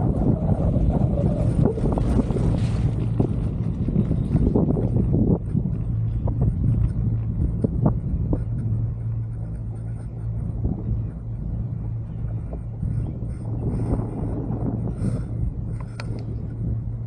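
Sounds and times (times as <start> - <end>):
low vibration hum: 0.0 - 17.0
wind rumble on microphone: 0.0 - 17.0.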